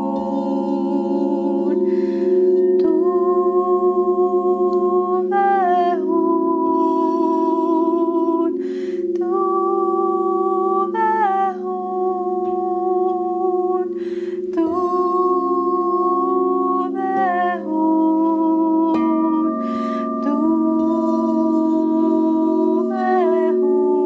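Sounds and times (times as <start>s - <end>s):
singing bowls ringing: 0.0s - 24.0s
woman chanting: 0.0s - 24.0s.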